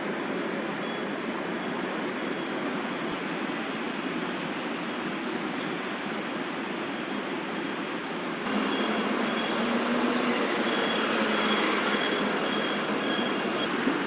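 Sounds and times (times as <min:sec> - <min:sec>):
city traffic roar: 0:00.0 - 0:14.0.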